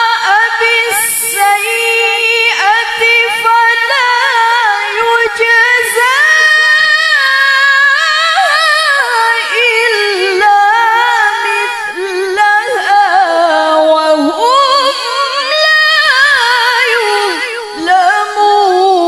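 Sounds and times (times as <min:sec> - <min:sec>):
woman chanting melodically: 0:00.0 - 0:19.0.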